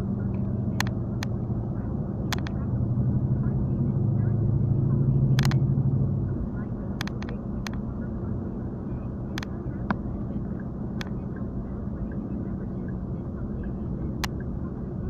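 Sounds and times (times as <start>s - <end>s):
car rumble: 0.0s - 15.0s.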